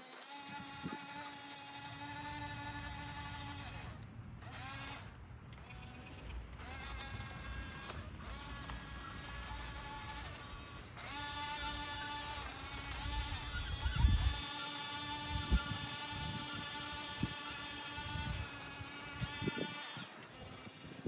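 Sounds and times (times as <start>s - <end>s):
rc machine electric motors whining: 0.0s - 21.0s.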